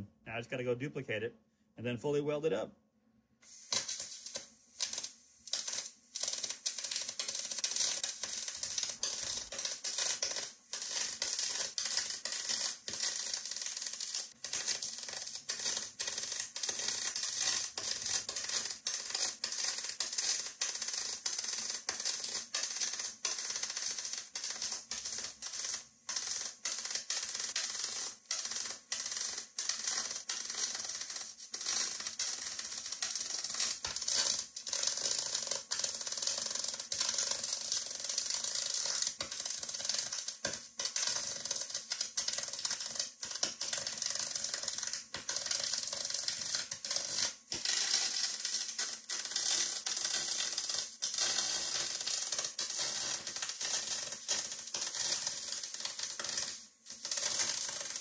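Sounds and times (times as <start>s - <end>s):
welding arc crackling hiss: 3.4s - 58.0s.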